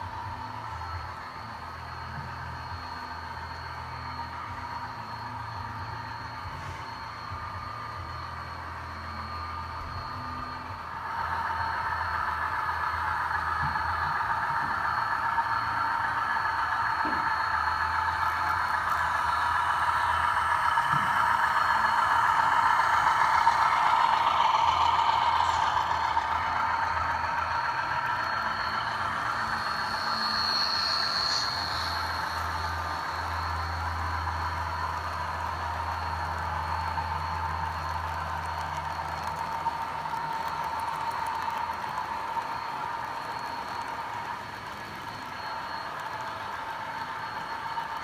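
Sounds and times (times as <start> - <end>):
model train running on track: 0.0 - 48.0.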